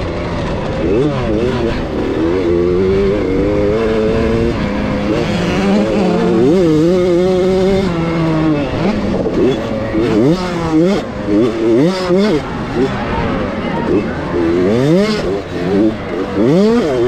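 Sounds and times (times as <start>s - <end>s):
motocross bike engine revving: 0.0s - 17.0s.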